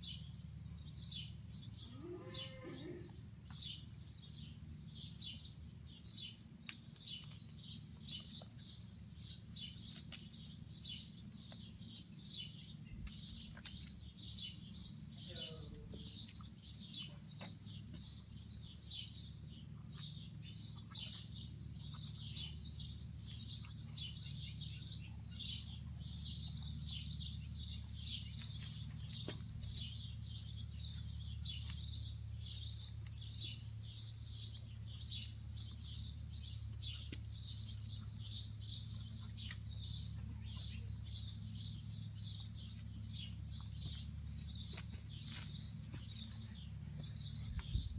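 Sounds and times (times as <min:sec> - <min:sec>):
small birds chirping: 0:00.0 - 0:47.9
steady low hum: 0:03.1 - 0:47.9.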